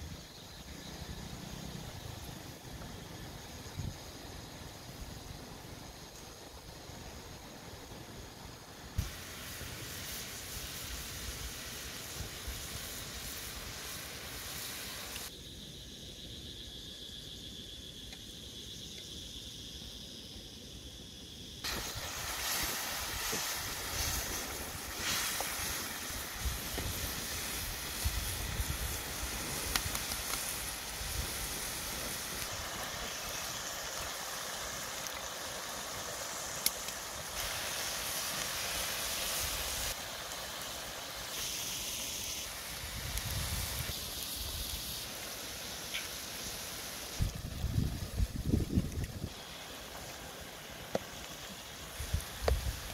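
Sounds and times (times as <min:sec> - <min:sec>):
cabbage sizzling in a wok: 0:00.0 - 0:52.9.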